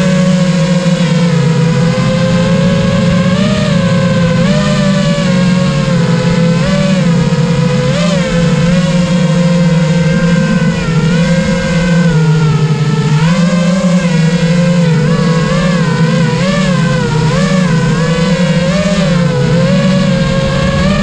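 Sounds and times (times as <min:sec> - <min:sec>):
drone propellers whirring: 0:00.0 - 0:21.0.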